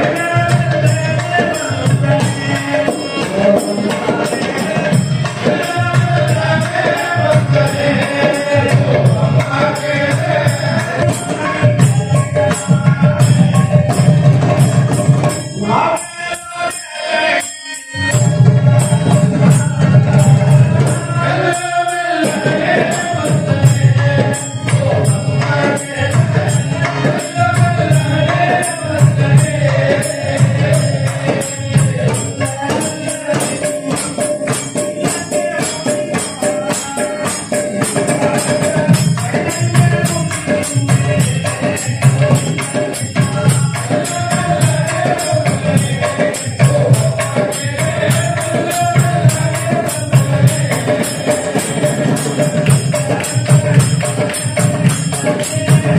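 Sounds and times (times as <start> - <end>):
harmonium: 0.0 - 55.9
jingling hand percussion: 0.0 - 55.9
men singing together: 0.0 - 55.9.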